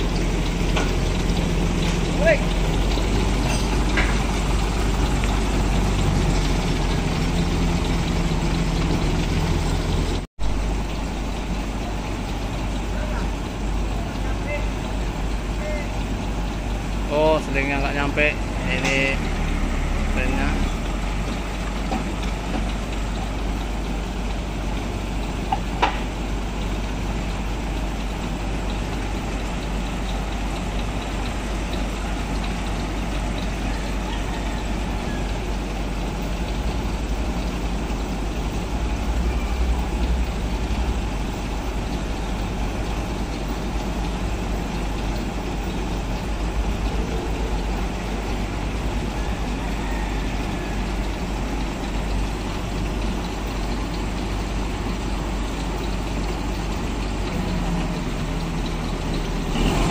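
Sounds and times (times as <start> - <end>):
truck diesel engine rumbling: 0.0 - 59.9.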